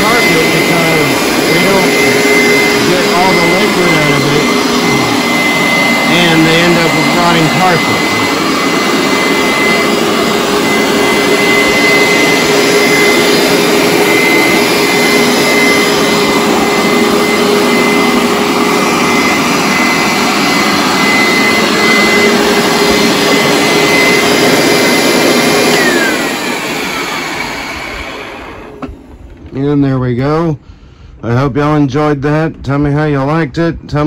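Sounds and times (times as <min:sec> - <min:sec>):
carpet cleaner motor whine: 0:00.0 - 0:29.6.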